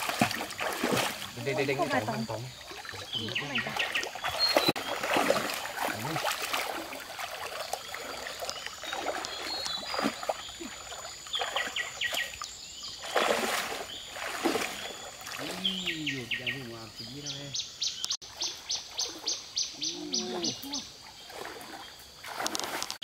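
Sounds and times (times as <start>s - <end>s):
feet wading through water: 0.0s - 16.5s, 18.2s - 23.0s.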